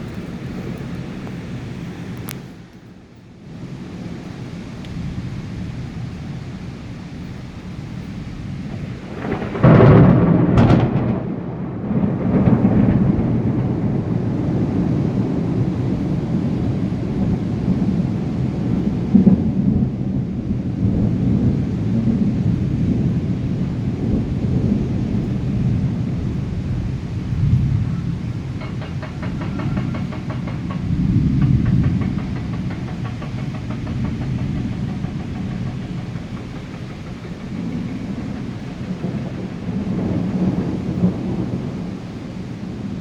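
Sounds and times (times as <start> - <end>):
rain: 0.0 - 43.0
thunder rumbling: 0.0 - 43.0
thunderclap: 3.5 - 43.0.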